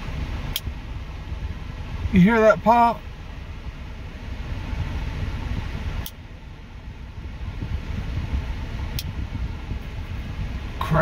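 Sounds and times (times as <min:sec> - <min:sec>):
low rumble in car: 0:00.0 - 0:11.0.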